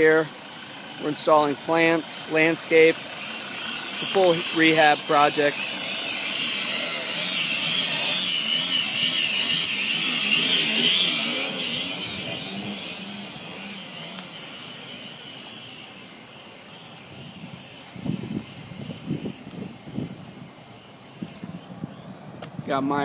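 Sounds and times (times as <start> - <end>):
power tool running: 0.0 - 21.8.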